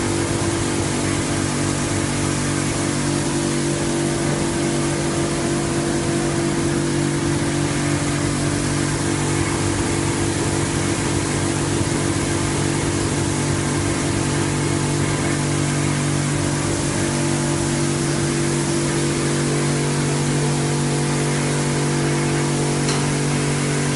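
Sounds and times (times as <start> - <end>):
pump motor humming: 0.0 - 23.9.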